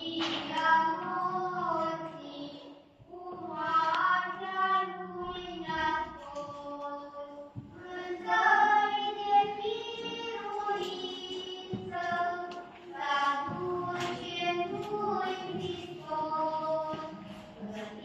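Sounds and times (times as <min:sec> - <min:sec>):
voices singing a church hymn: 0:00.0 - 0:18.0.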